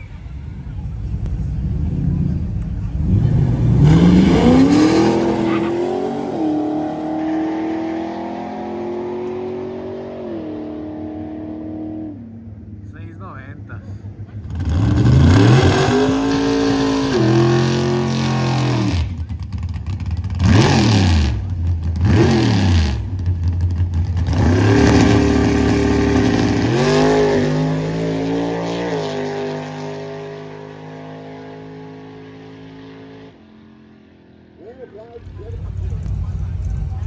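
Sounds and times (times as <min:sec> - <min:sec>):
drag car engine revving: 0:01.0 - 0:12.2, 0:14.2 - 0:33.6.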